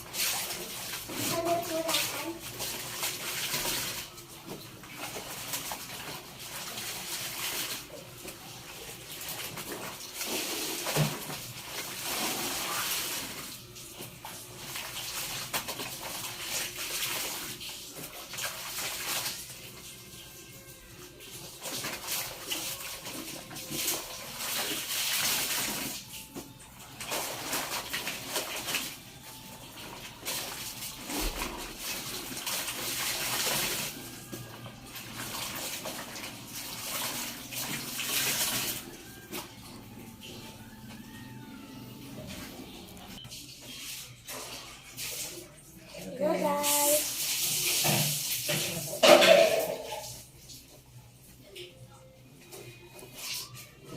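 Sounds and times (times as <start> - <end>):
water sloshing and splashing: 0.0 - 41.2, 41.9 - 51.0.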